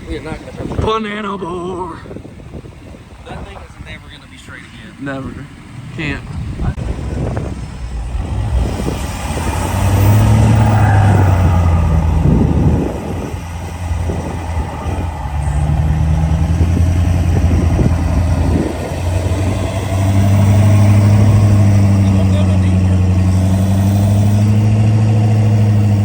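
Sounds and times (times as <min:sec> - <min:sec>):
truck engine driving in sand: 0:00.0 - 0:26.0.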